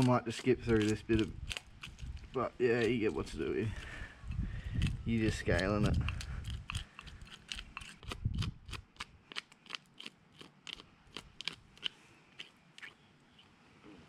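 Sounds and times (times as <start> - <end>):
fish scaler scraping scales: 0.0 - 4.1, 4.8 - 13.5.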